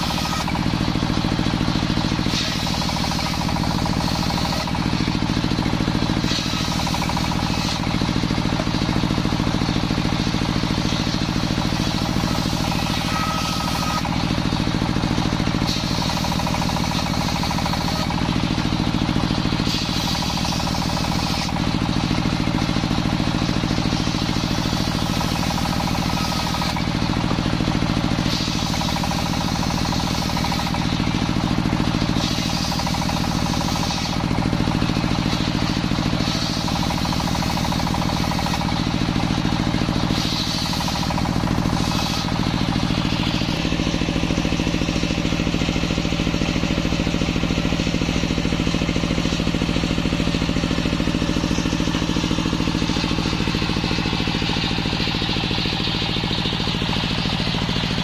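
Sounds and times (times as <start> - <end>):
circular saw cutting wood: 0.0 - 58.0
engine running: 0.0 - 58.0.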